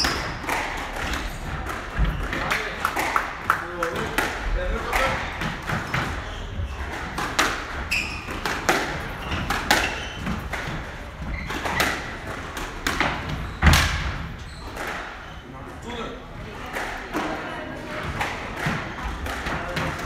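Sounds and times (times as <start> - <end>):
squash ball hitting rackets: 0.0 - 15.2, 16.6 - 20.0.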